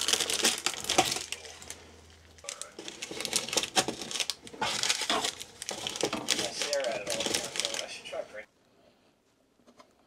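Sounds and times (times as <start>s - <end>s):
crinkles and rustling: 0.0s - 8.3s.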